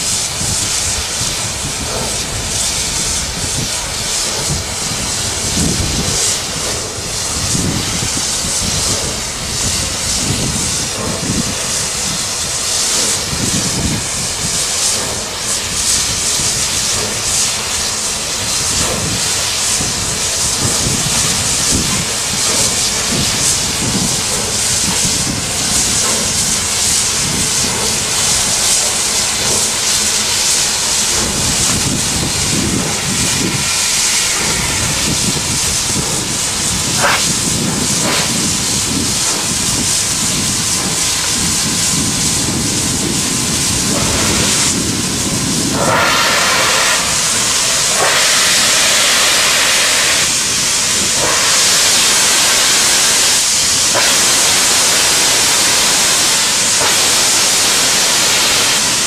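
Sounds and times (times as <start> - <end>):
steam hissing from locomotive: 0.0 - 59.0.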